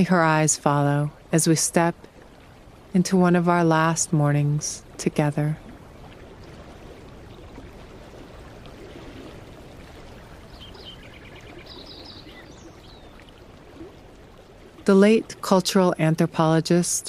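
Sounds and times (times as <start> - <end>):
creek running: 0.0 - 17.0.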